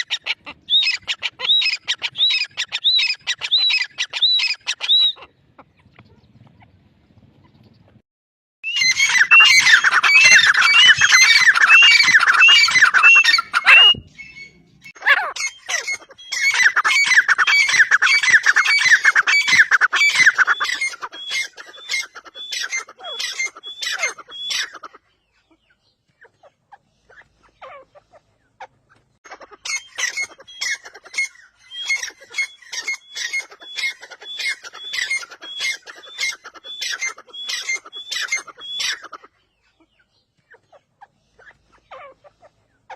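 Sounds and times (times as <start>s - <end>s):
partridge calling: 0.0s - 6.8s, 8.7s - 25.0s, 26.3s - 42.6s.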